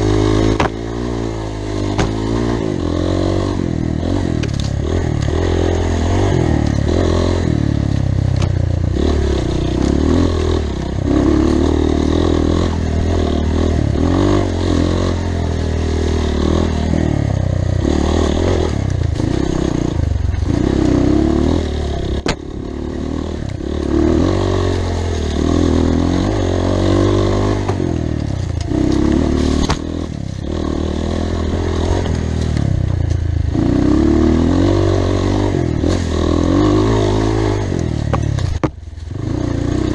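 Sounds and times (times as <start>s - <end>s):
off-road motorcycle engine revving: 0.0s - 39.9s
rattling and scraping: 4.0s - 34.4s, 35.7s - 39.3s.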